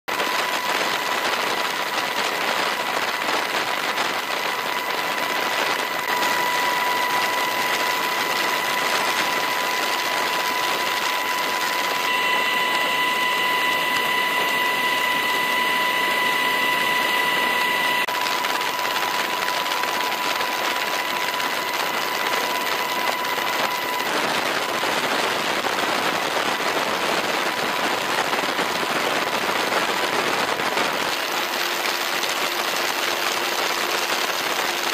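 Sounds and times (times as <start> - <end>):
helicopter rotor and turbine noise: 0.1 - 34.9
high whine: 0.1 - 34.9.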